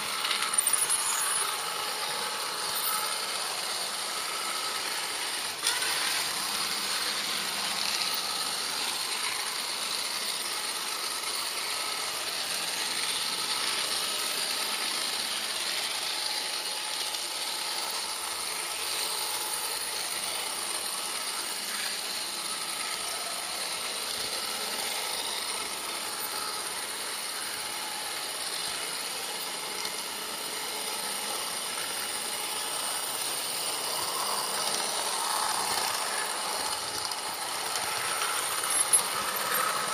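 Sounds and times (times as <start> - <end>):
model train whirring and rattling: 0.0 - 39.9.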